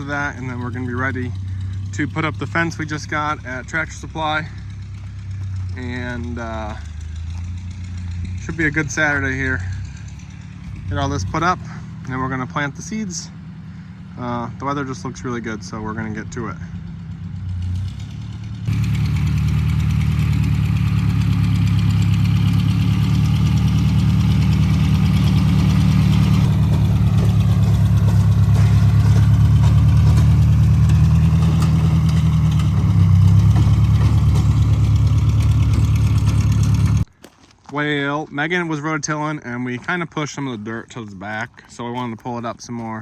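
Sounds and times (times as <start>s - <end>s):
tractor engine under load: 0.0s - 43.0s.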